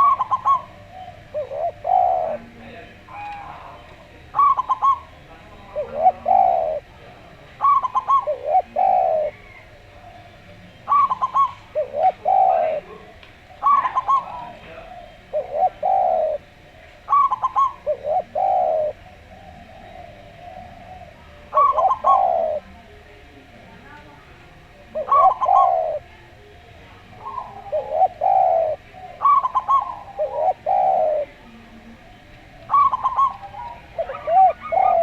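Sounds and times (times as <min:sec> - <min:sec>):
doves cooing: 0:00.0 - 0:35.0.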